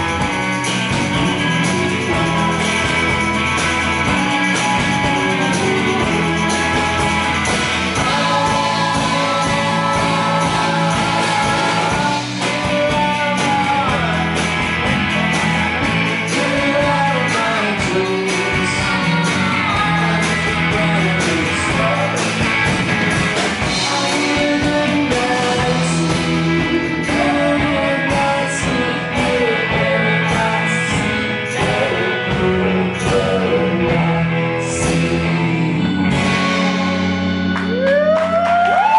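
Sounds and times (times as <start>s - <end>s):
acoustic and electric guitars: 0.0s - 38.9s
drums: 0.0s - 38.9s
keyboard: 0.0s - 38.9s
person singing: 0.0s - 38.9s.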